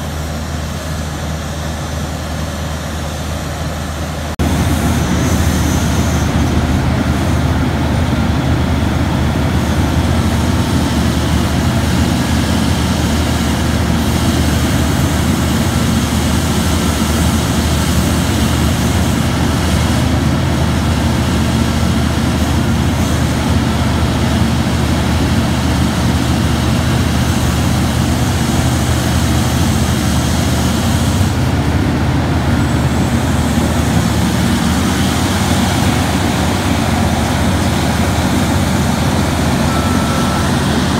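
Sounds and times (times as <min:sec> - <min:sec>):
diesel engine droning under load: 0:00.0 - 0:40.9.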